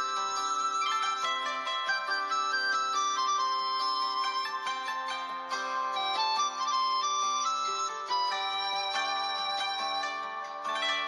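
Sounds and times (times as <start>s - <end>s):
light instrumental melody: 0.0s - 11.0s.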